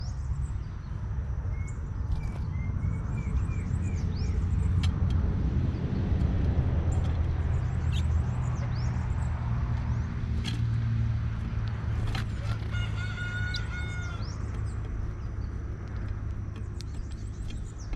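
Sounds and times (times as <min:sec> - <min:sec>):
motor vehicle rumble: 0:00.0 - 0:17.9
small birds chirping: 0:00.0 - 0:17.9.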